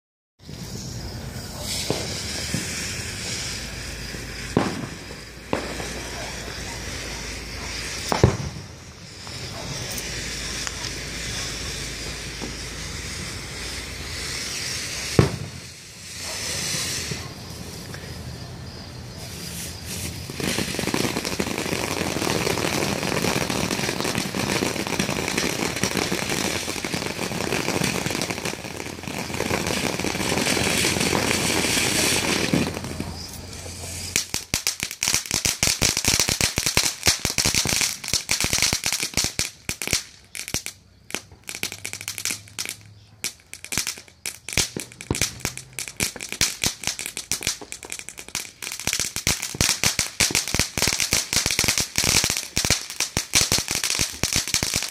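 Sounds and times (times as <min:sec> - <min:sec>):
firework crackling and popping: 0:00.4 - 0:54.9
firework fountain hissing: 0:00.4 - 0:54.9.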